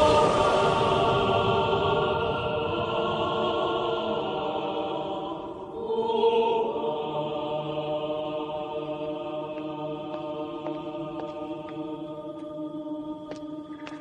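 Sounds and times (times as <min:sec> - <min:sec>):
choir-like film score chords: 0:00.0 - 0:14.0.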